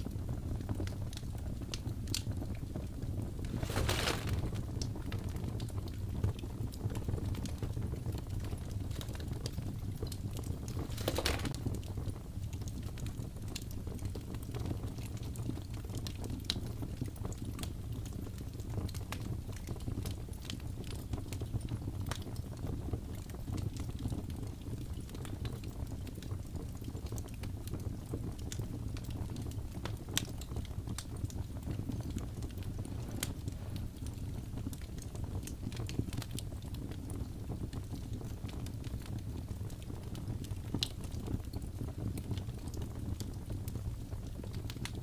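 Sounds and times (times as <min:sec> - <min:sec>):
fire crackling and popping: 0:00.0 - 0:45.0
low roar of flames: 0:00.1 - 0:22.2, 0:23.1 - 0:45.0.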